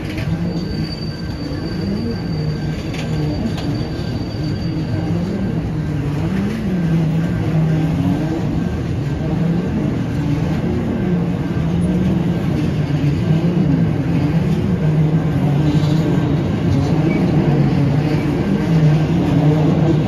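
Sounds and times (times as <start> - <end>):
freight wagons rolling on rails: 0.0 - 20.0.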